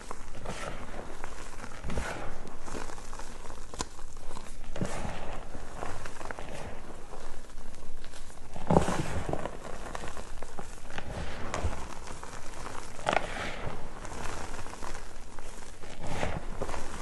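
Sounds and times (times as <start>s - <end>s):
chalk crunching and crumbling: 0.0s - 17.0s.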